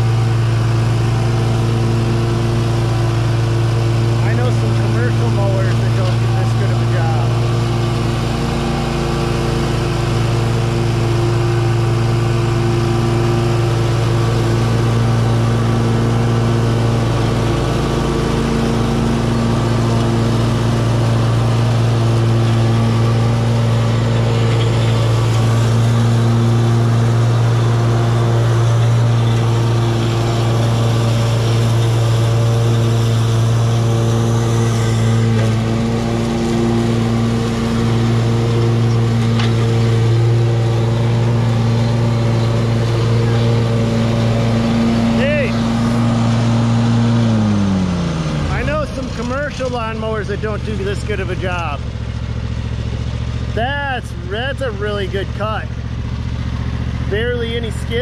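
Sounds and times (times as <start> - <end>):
lawn mower cutting grass: 0.0 - 58.0.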